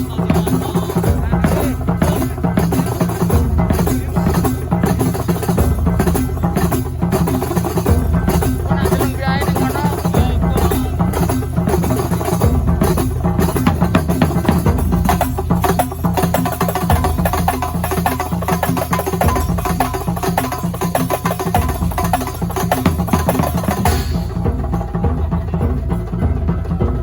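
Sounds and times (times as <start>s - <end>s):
frame drums playing fast rhythm: 0.0s - 27.0s.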